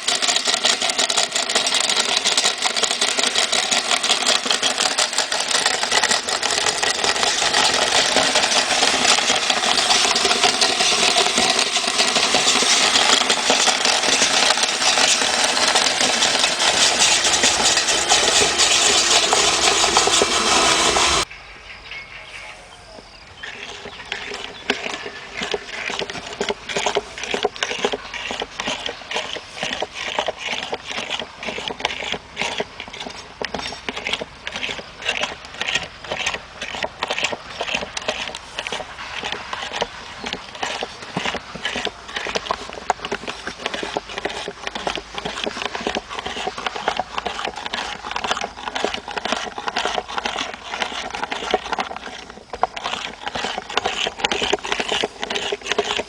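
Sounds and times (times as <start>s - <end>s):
crackling and clicking: 0.0s - 21.3s, 22.8s - 56.0s
meat grinder motor hum: 0.0s - 21.3s, 23.0s - 56.0s.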